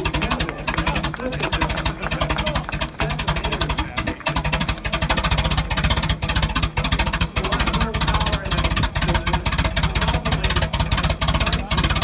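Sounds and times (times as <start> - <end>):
vintage car engine idling: 0.0 - 12.0.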